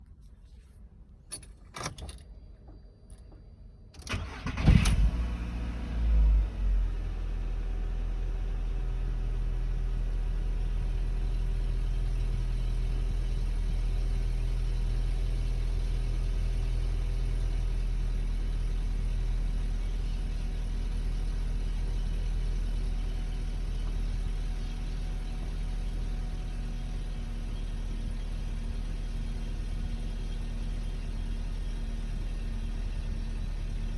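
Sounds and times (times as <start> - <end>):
car engine starting and idling: 4.0 - 33.9.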